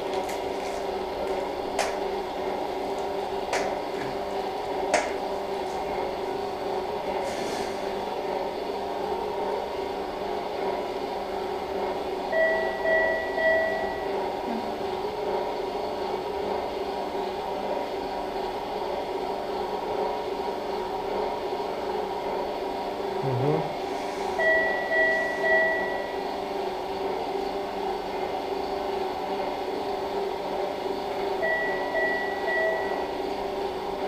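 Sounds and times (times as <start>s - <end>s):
mechanical equipment hum: 0.0s - 34.0s.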